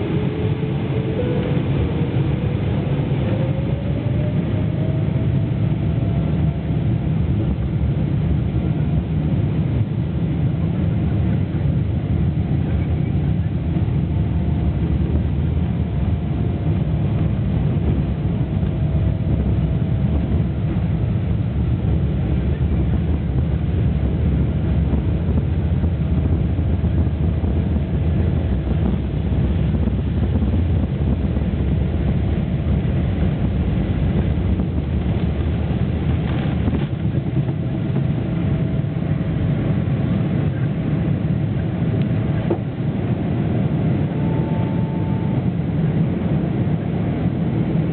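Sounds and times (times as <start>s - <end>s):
faint steady tones: 0.0s - 47.8s
jet engine cabin rumble: 0.0s - 47.9s.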